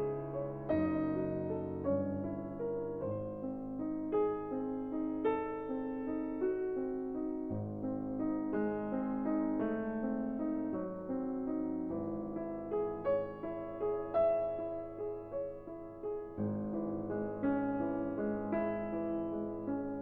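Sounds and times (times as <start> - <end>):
piano melody: 0.0 - 20.0.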